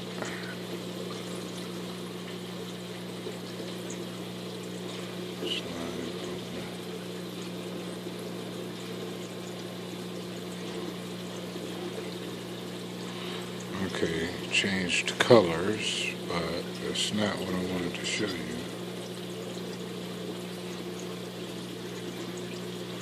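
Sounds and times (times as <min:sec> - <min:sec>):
low pump hum: 0:00.0 - 0:23.0
water rushing and trickling: 0:00.0 - 0:23.0.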